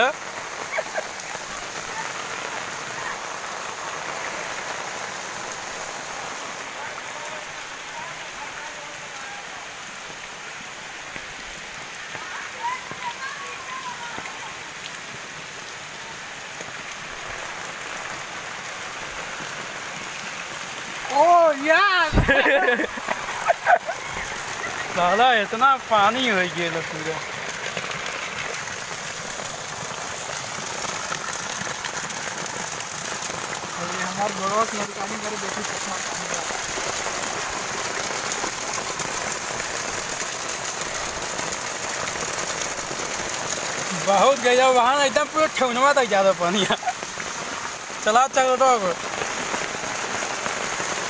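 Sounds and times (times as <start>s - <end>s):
floodwater running: 0.0s - 51.0s
rain falling on water: 0.0s - 51.0s.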